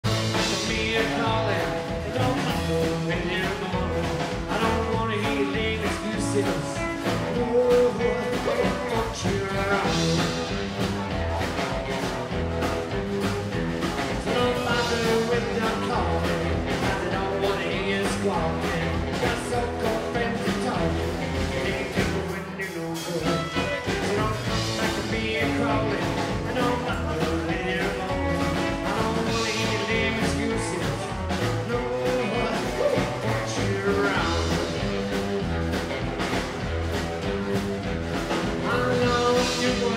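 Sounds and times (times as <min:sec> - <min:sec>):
man singing: 0:00.0 - 0:10.9, 0:13.0 - 0:35.5, 0:38.2 - 0:39.9
drum kit steady beat: 0:00.0 - 0:39.9
rockabilly band playing: 0:00.0 - 0:39.9
upright bass: 0:00.0 - 0:39.9.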